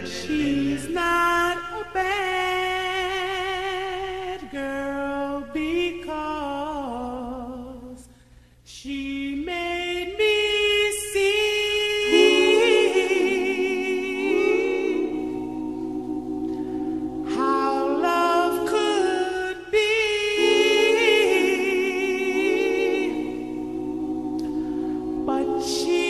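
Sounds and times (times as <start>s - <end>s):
voices singing in harmony: 0.0s - 8.1s, 8.8s - 26.0s.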